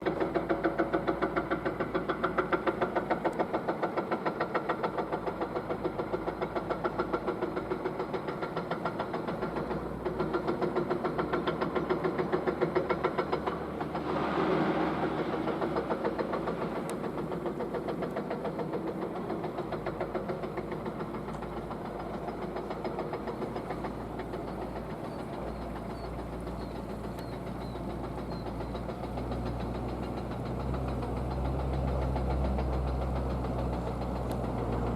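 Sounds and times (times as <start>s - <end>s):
diesel engine knocking: 0.0s - 34.9s.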